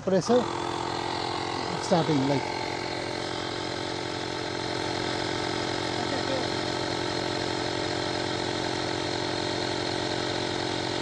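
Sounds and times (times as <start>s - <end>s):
portable tyre inflator running: 0.0s - 11.0s.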